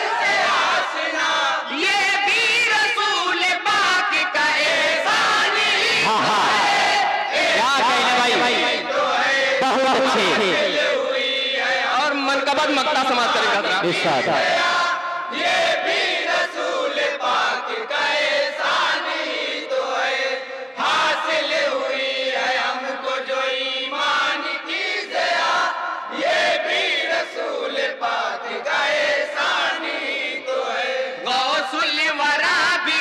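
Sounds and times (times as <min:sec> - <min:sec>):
men chanting in unison: 0:00.0 - 0:33.0.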